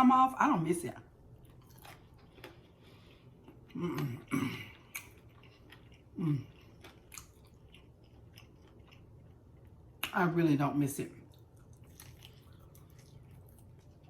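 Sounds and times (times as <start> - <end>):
person chewing wetly: 1.3 - 10.2, 11.2 - 14.0.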